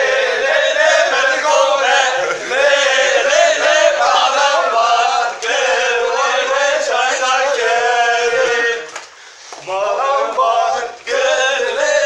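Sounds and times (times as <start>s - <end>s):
men singing a chant: 0.0s - 9.0s, 9.6s - 12.0s.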